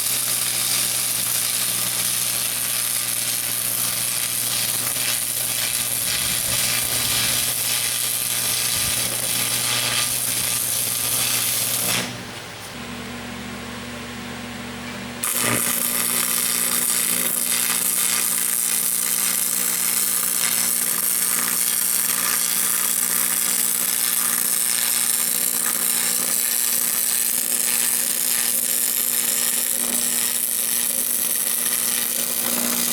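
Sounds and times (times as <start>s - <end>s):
loud hissing crackling cutting: 0.0s - 12.3s, 15.2s - 32.9s
power tool humming: 0.0s - 13.3s, 15.2s - 32.9s.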